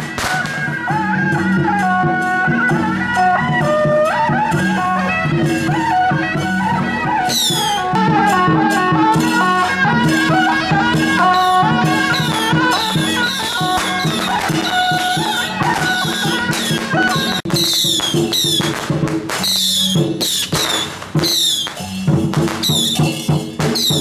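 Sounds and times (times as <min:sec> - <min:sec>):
continuous percussion: 0:00.0 - 0:24.0
wind instrument melody: 0:00.0 - 0:24.0.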